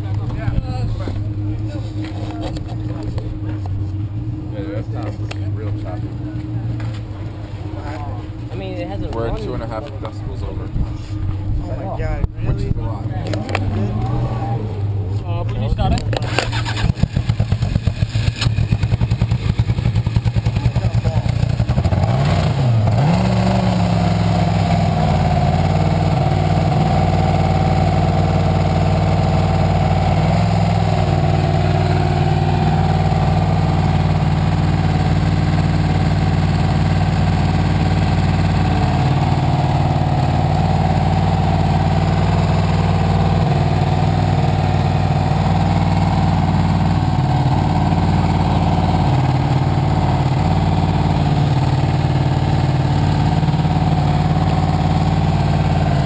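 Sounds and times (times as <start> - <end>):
race car engine idling choppily: 0.0 - 56.0.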